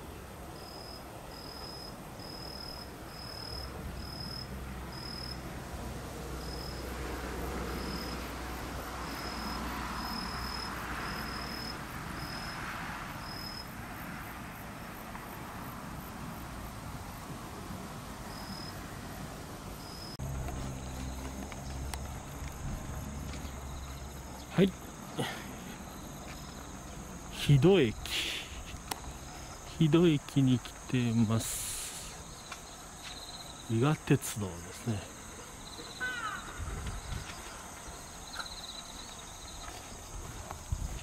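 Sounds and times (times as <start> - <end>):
insect chirping: 0.0 - 41.0.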